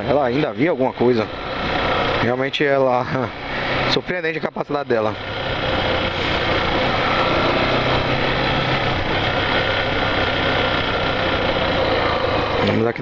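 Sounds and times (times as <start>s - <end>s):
motorcycle engine running: 0.0s - 13.0s
rush of riding noise: 0.0s - 13.0s.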